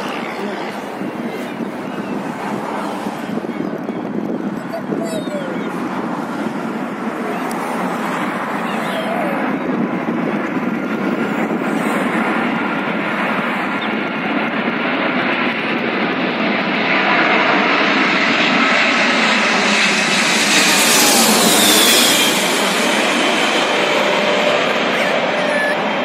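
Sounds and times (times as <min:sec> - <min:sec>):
falling jet whine: 0:00.0 - 0:14.2, 0:16.9 - 0:26.0
jet airliner engine roar: 0:00.0 - 0:26.0.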